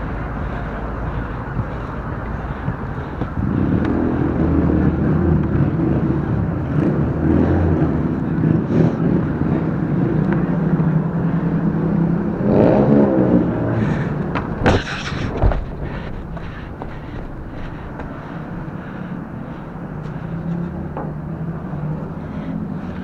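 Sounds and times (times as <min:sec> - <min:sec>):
road noise: 0:00.0 - 0:23.0
vehicle engine running: 0:00.0 - 0:23.0.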